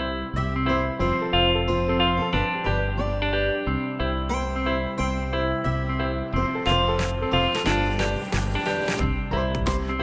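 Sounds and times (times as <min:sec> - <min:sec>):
bass line: 0:00.0 - 0:10.0
plucked string melody: 0:00.0 - 0:10.0.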